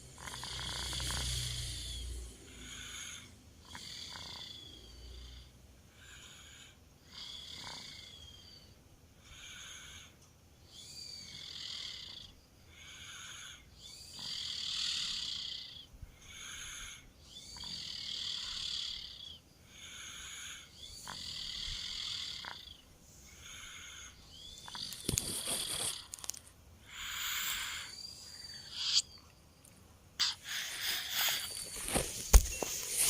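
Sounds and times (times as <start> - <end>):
child snoring: 0.0 - 10.2, 10.8 - 29.1, 30.2 - 32.0.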